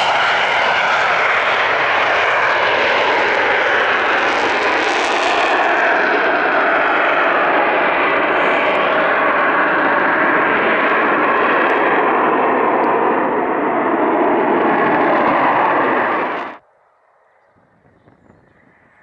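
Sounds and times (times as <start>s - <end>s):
loud jet engine noise: 0.0s - 16.7s.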